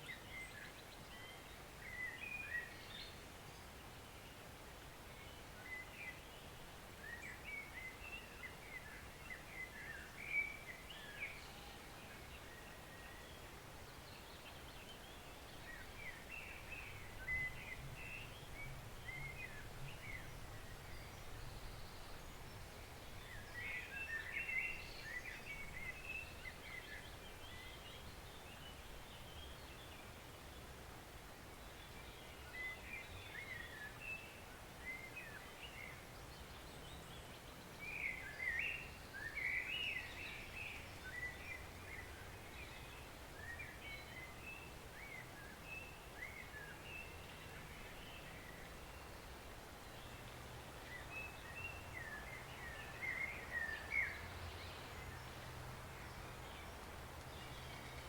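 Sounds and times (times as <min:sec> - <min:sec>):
small birds chirping: 0:05.2 - 0:30.8, 0:31.6 - 0:58.0
woodland stream rushing: 0:08.5 - 0:58.0.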